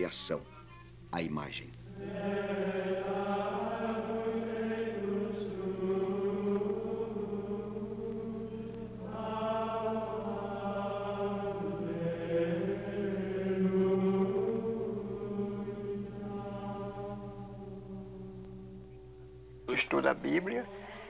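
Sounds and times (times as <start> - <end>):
slow chanted singing: 0.0 - 21.0.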